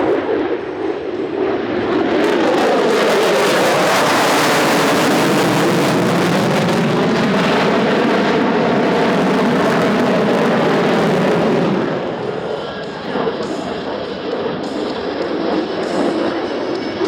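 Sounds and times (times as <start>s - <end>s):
jet fighter roaring past: 0.0s - 17.0s.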